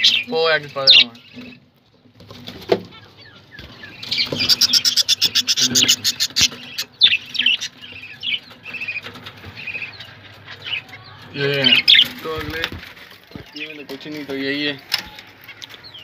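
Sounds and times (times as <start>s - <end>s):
budgerigars chirping: 0.0s - 1.6s, 2.4s - 14.5s.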